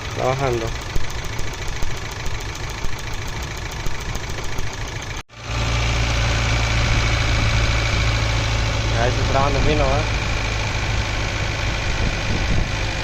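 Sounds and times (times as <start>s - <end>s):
car engine idling with misfire: 0.0s - 13.0s.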